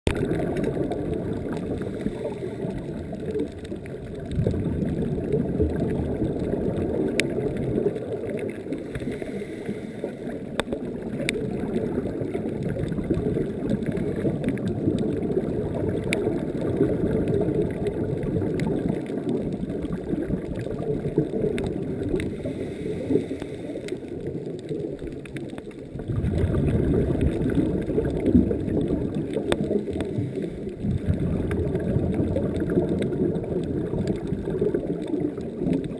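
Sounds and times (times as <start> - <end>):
muffled underwater rumble: 0.1 - 35.9
faint clicks: 5.6 - 26.5, 27.2 - 35.9.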